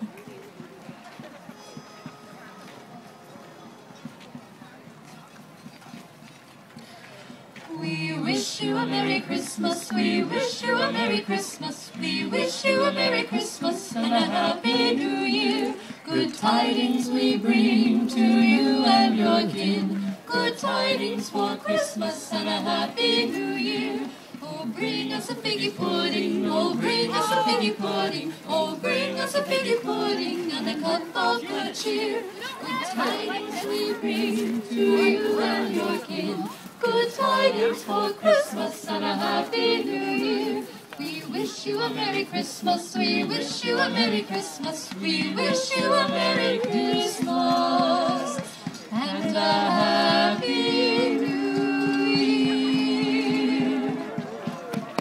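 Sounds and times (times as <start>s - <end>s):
carolers singing a cappella: 7.5s - 55.0s.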